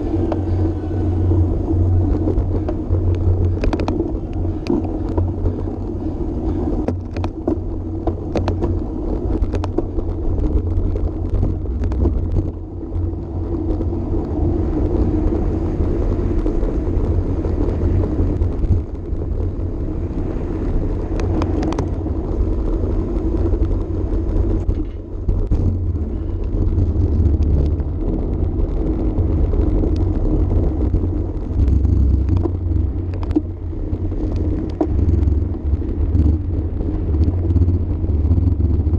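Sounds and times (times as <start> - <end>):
tyres humming on pavement: 0.0 - 38.9
wind buffeting microphone: 0.0 - 38.9
bike clicks and rattles: 1.3 - 38.9.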